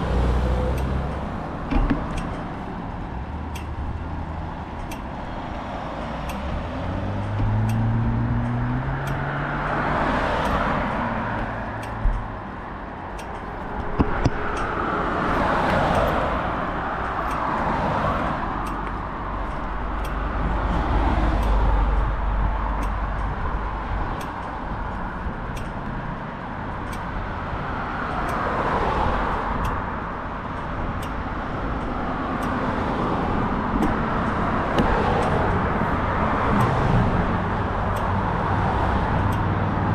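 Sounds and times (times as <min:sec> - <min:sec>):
cars passing: 0:00.0 - 0:39.9.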